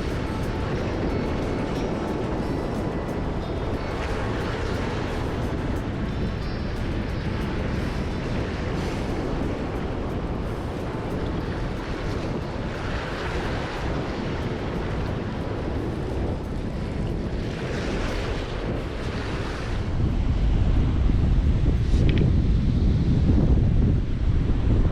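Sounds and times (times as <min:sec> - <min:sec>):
heavy surf on rocky shore: 0:00.0 - 0:24.9
wind buffeting microphone: 0:00.0 - 0:24.9.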